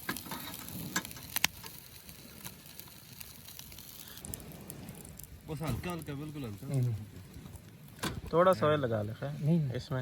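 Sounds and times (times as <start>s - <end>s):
sharp fire pops: 0.0s - 8.7s
campfire crackling: 0.0s - 10.0s
low steady hiss: 0.0s - 10.0s.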